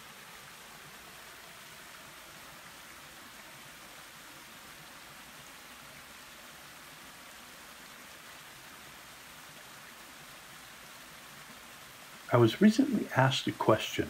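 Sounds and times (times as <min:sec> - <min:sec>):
creek running over rocks: 0:00.0 - 0:14.0.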